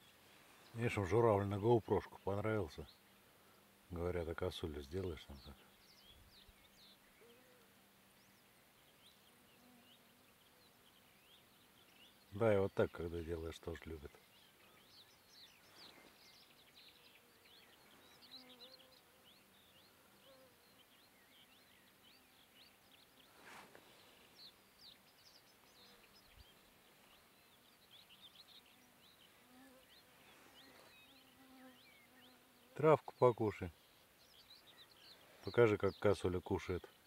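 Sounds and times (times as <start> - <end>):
faint insect buzz: 0.0 - 35.6
distant small birds chirping: 0.0 - 37.0.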